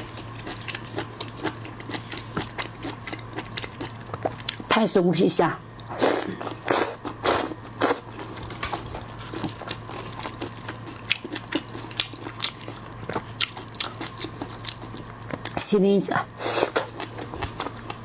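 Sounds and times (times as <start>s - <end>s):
crunching and chewing: 0.0s - 4.7s, 5.8s - 15.6s, 16.5s - 18.0s.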